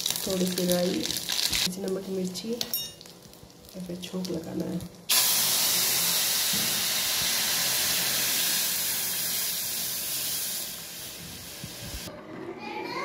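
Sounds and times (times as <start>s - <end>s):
batter sizzling in hot oil: 0.0s - 1.7s, 3.0s - 12.1s.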